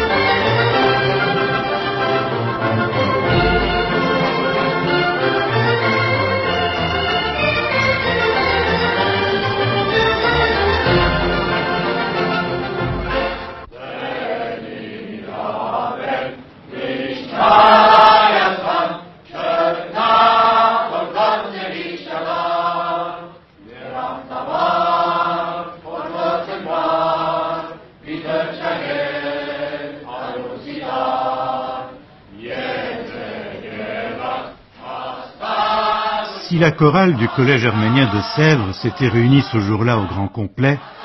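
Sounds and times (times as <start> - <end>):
choir singing: 0.0 - 41.0.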